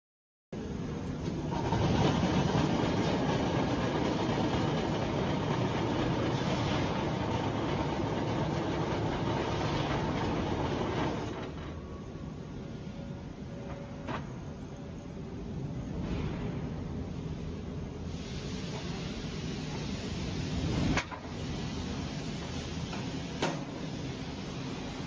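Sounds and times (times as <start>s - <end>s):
industrial machinery rumble and clatter: 0.6s - 25.0s.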